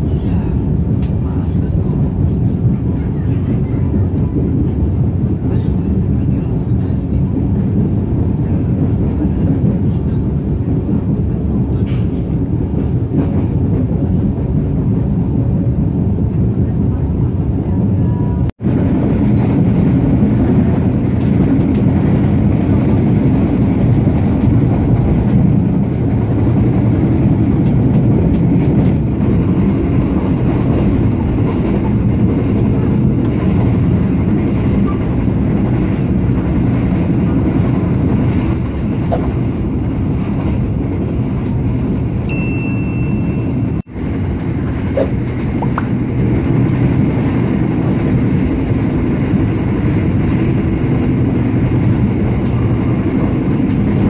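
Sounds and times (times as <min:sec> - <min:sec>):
train rumbling at speed: 0:00.0 - 0:54.0.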